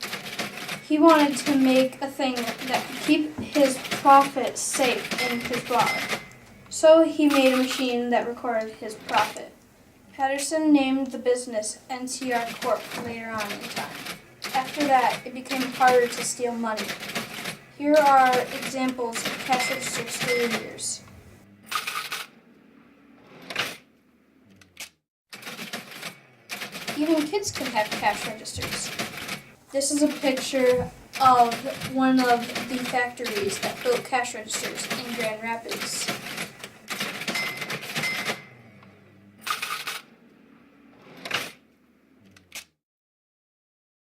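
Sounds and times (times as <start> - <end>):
cash register bursts: 0.0 - 9.5, 10.3 - 22.3, 25.4 - 40.1, 41.0 - 41.6
soft mechanical noise: 0.0 - 24.8, 25.4 - 42.7.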